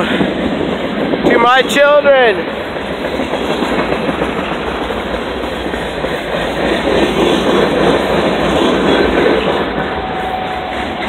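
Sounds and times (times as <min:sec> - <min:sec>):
freight train cars rolling past: 0:00.0 - 0:11.0.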